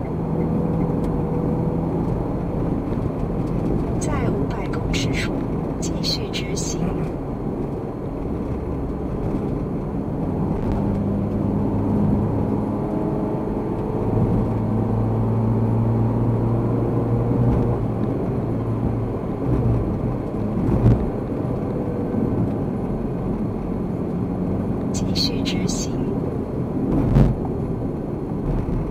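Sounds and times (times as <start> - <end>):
car engine and road rumble: 0.0 - 28.9.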